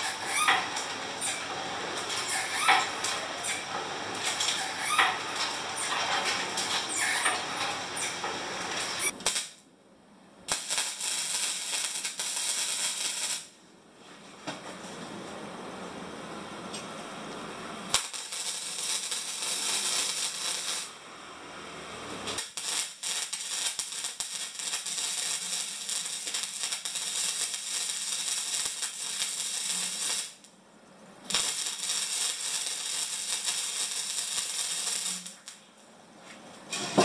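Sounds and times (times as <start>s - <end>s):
welding arc crackling: 0.0s - 9.6s, 10.5s - 13.6s, 17.8s - 30.5s, 31.2s - 35.6s.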